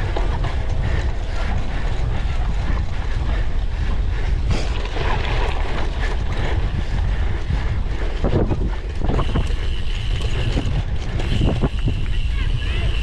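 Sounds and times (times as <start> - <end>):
bike rattling over rough ground: 0.0 - 13.0
wind buffeting microphone: 0.0 - 13.0.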